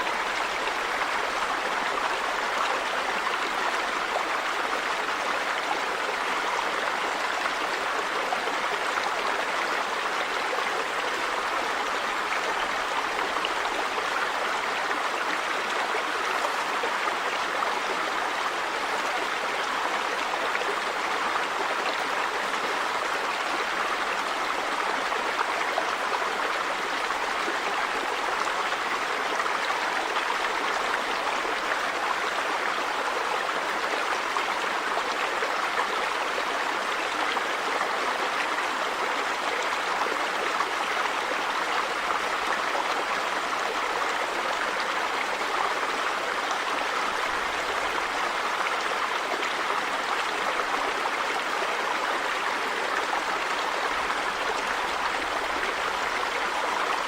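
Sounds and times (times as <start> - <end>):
river water over stones: 0.0 - 57.0.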